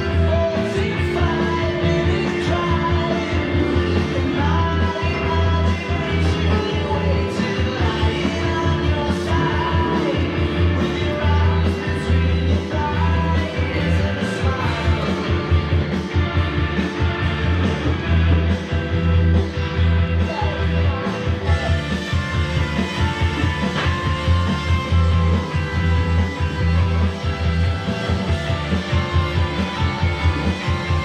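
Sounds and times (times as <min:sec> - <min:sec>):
heavy bass line: 0:00.0 - 0:31.0
rock music with singing: 0:00.0 - 0:31.0.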